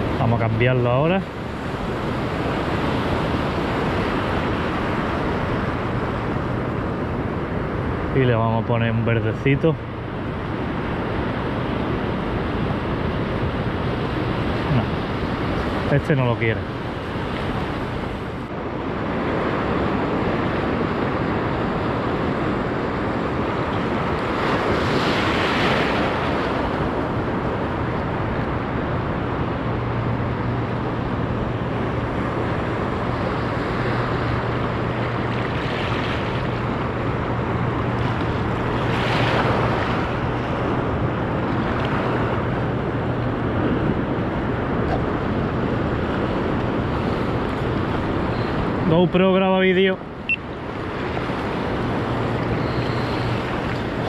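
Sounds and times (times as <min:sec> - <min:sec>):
surf breaking ashore: 0:00.0 - 0:54.0.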